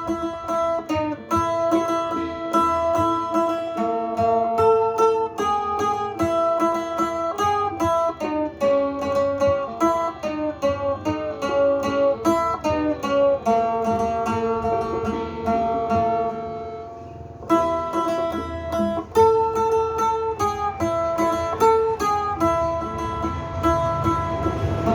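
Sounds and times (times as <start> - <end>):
plucked lute melody: 0.0 - 24.9.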